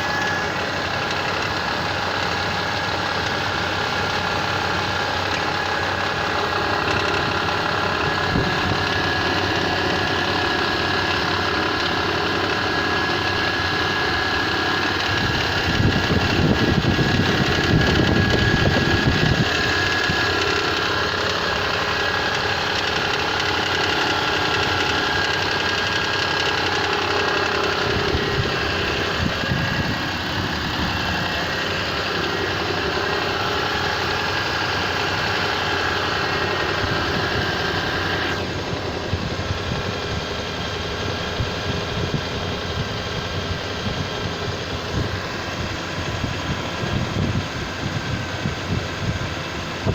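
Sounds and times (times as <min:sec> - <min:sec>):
engine idling with a knock: 0:00.0 - 0:49.9.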